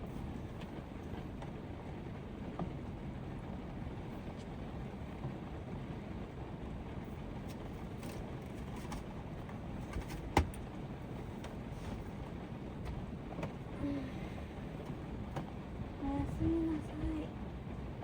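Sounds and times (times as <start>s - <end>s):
heavy rain and wind on vehicle roof: 0.0s - 18.0s.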